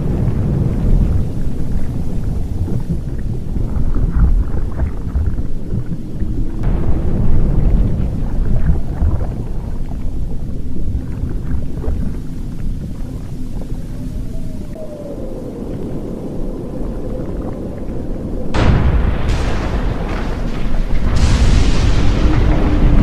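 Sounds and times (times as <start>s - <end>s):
crackling and popping: 0.0s - 14.8s, 16.7s - 23.0s
volcanic eruption rumbling: 0.0s - 23.0s.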